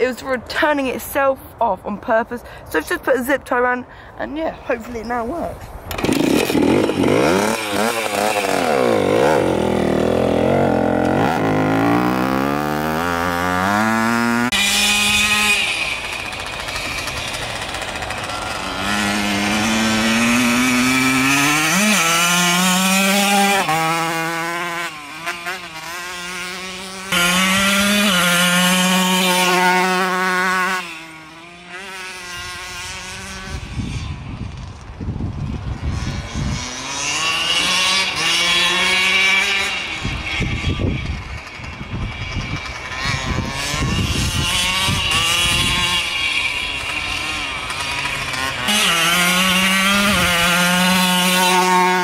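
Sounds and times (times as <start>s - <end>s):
motorbike engine revving: 5.8s - 52.0s.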